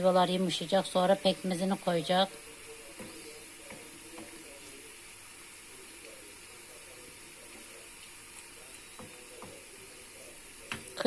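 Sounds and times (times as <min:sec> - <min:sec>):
faint sizzle in a pot: 0:00.0 - 0:11.0.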